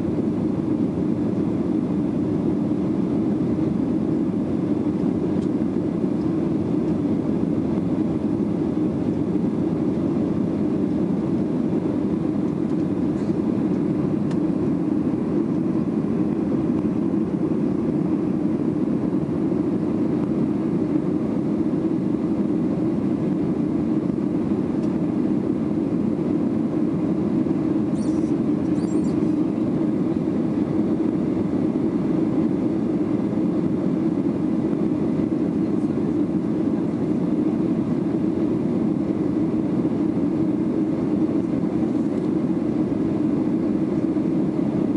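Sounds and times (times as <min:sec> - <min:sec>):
airplane cabin engine drone: 0:00.0 - 0:44.9.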